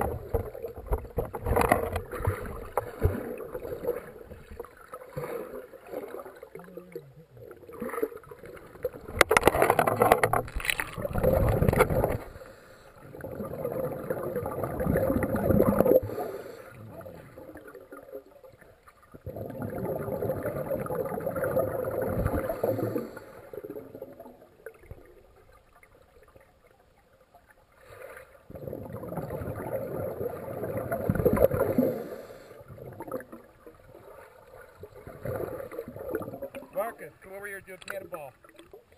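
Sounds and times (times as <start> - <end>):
muffled underwater swirling and bubbling: 0.0 - 38.9.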